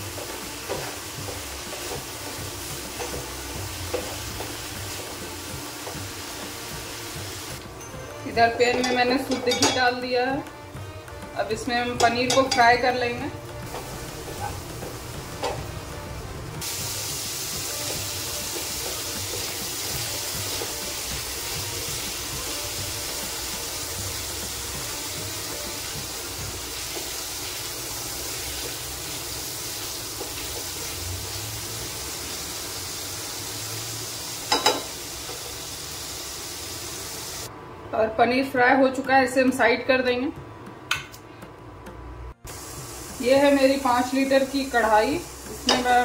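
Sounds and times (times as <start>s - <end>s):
frying sizzle in a pan: 0.0s - 37.5s, 42.4s - 46.0s.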